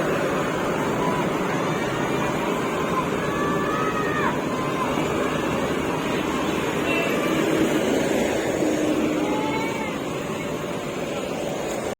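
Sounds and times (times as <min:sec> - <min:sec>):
bus and traffic engines: 0:00.0 - 0:11.9.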